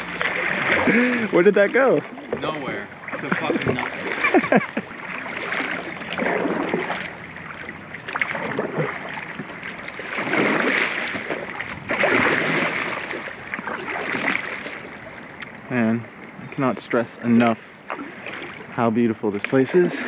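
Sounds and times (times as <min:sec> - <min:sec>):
paddle strokes splashing: 0:00.0 - 0:20.0.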